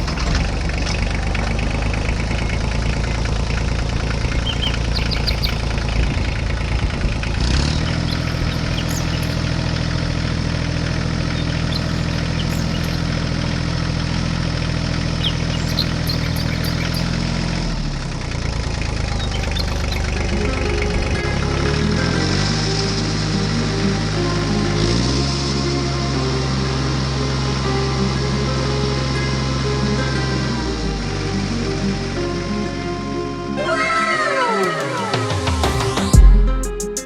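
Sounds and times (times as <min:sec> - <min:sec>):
engine idling: 0:00.0 - 0:33.2
low hum: 0:00.0 - 0:33.6.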